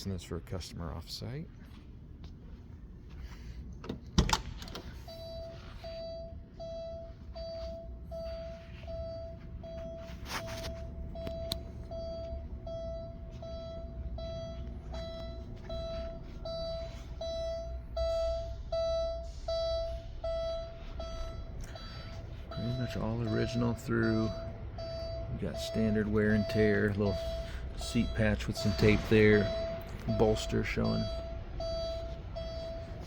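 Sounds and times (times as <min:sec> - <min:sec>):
car warning chime beeping: 0:04.8 - 0:33.0.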